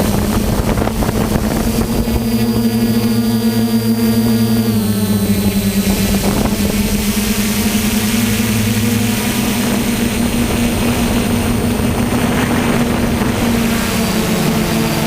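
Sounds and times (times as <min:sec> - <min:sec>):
quadcopter motors humming: 0:00.0 - 0:15.0
wind rushing over microphone: 0:00.0 - 0:15.0.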